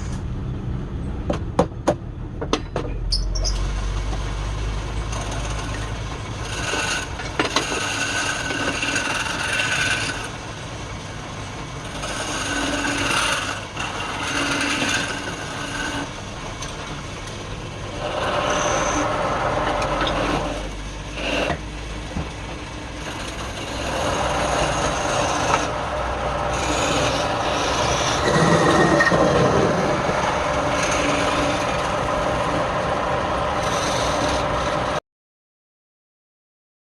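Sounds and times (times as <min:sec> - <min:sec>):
tool scraping spinning wood: 0:03.6 - 0:35.0.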